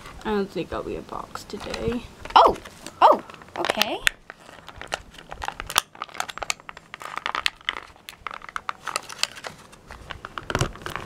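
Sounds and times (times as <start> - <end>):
plastic packaging crinkling: 1.5 - 11.0.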